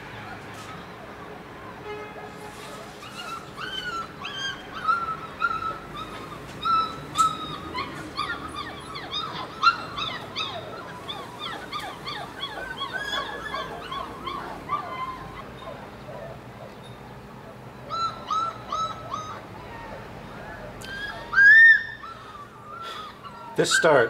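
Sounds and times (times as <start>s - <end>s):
dogs whining: 0.0s - 24.0s
dog yelps: 2.2s - 24.0s.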